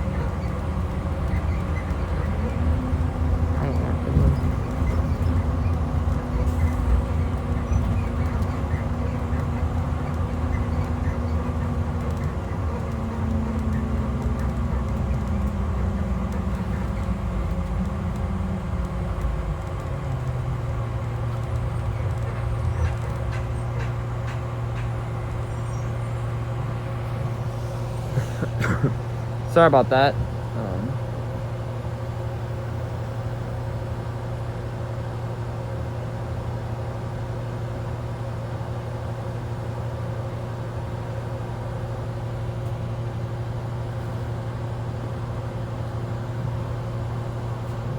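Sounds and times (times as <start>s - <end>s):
bus diesel engine running: 0.0s - 47.9s
low road rumble: 0.0s - 47.9s.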